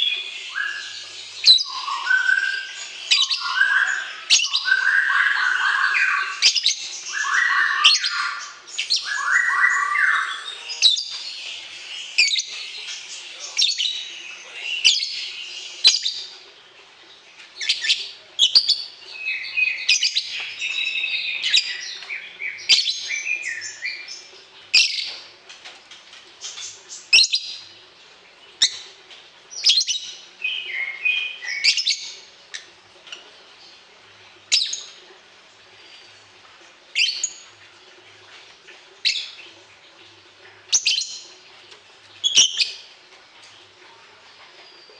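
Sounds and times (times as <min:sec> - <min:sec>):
songbird chirping and trilling: 0:00.0 - 0:16.5, 0:17.4 - 0:25.3, 0:28.4 - 0:35.0, 0:36.9 - 0:37.6, 0:39.0 - 0:41.4, 0:42.0 - 0:44.9.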